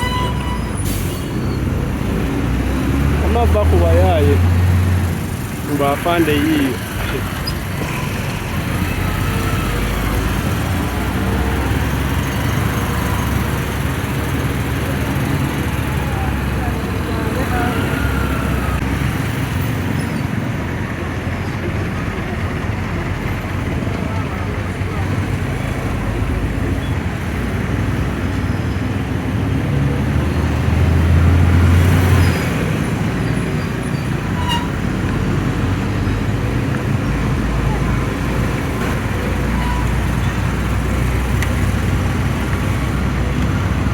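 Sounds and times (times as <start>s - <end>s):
passing vehicles rumble: 0.0s - 43.9s
road noise: 0.0s - 43.9s
vehicle engine hum: 0.0s - 43.9s
wind: 0.0s - 43.9s.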